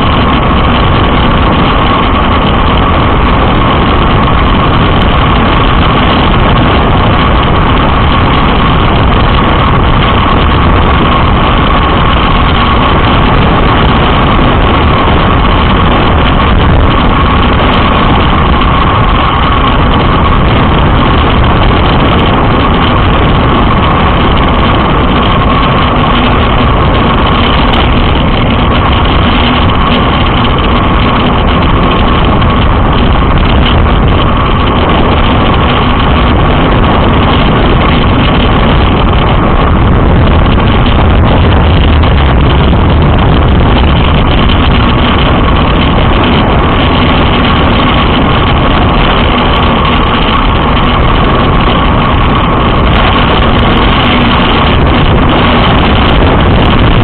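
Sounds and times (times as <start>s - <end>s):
steady tone: 0.0s - 57.0s
wind buffeting microphone: 0.0s - 57.0s.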